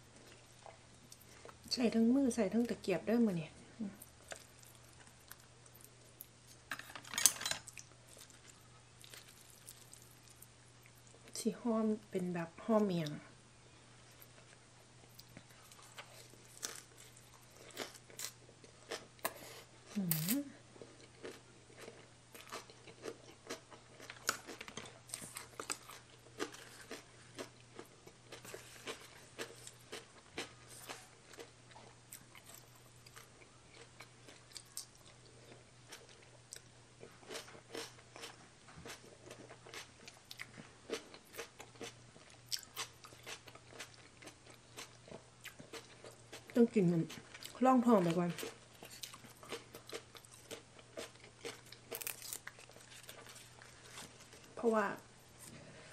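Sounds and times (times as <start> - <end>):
crunching and wet chewing: 4.0 - 6.6, 7.6 - 11.4, 14.0 - 54.6.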